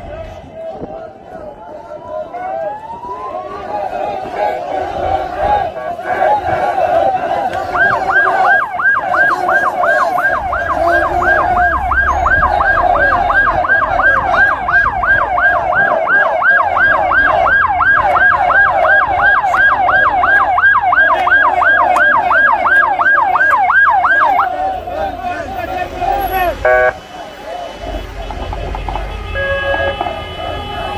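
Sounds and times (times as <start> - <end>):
ambulance siren yelping: 1.7 - 30.9.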